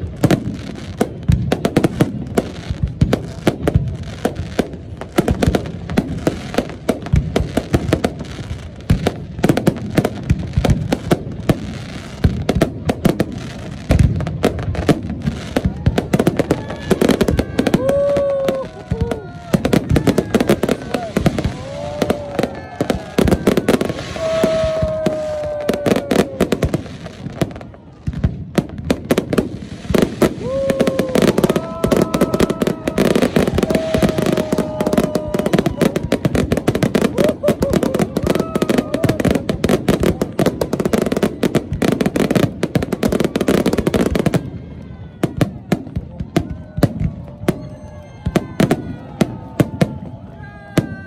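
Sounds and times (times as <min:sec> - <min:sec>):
fireworks bursting and crackling: 0:00.0 - 0:51.0.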